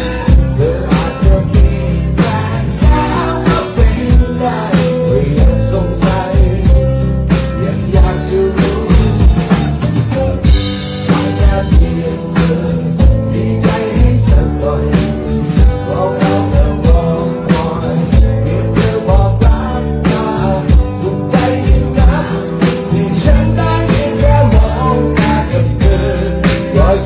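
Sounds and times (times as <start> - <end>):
drum kit beat: 0.0 - 27.0
rock band playing live: 0.0 - 27.0.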